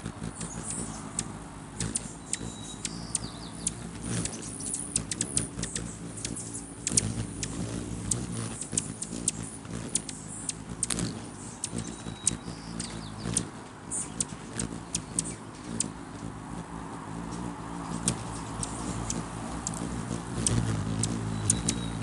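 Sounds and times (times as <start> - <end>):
hummingbird wings humming: 0.0 - 22.0.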